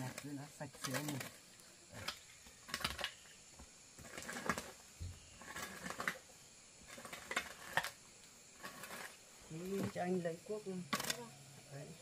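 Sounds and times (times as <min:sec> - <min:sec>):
objects clattering and rustling: 0:00.0 - 0:10.2.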